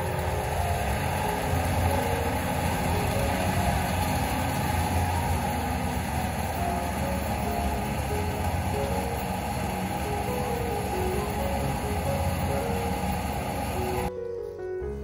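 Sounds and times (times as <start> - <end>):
tractor engine idling: 0.0 - 14.1.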